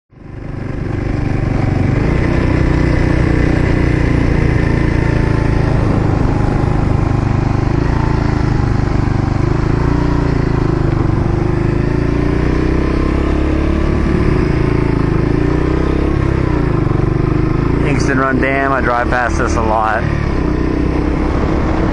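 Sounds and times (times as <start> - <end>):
motorcycle engine running: 0.1 - 21.9.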